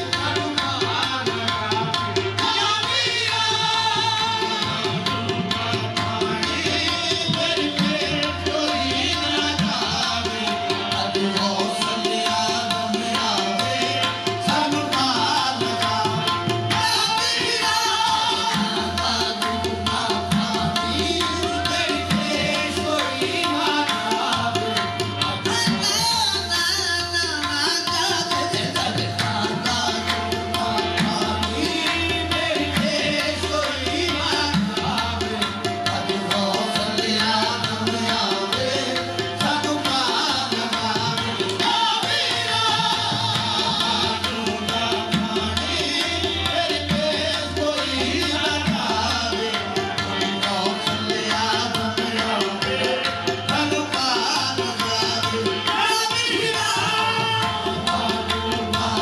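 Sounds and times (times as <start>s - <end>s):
tabla drumming: 0.0s - 59.0s.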